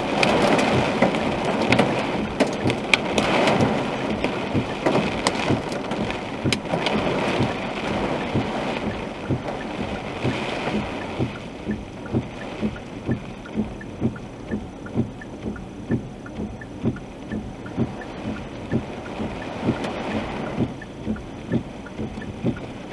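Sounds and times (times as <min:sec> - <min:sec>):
hail ticks: 0:00.0 - 0:22.9
rain on a car: 0:00.0 - 0:22.9
windscreen wipers thumping: 0:00.0 - 0:22.9.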